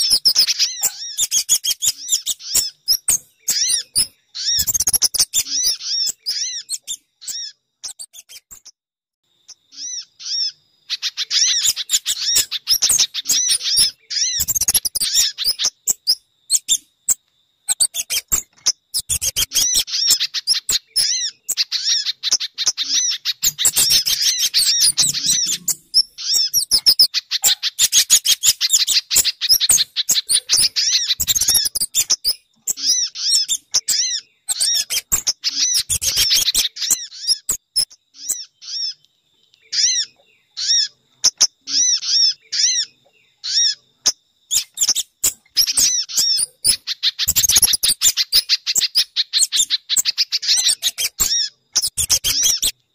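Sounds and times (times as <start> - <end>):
high bird chirps: 0.0 - 8.8, 9.4 - 52.8.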